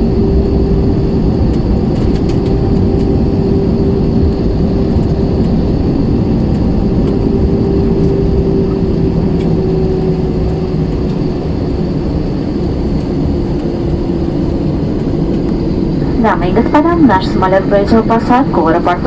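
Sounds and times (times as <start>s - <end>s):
aircraft cabin rumble: 0.0s - 19.0s
engine hum sinking in pitch: 0.0s - 19.0s.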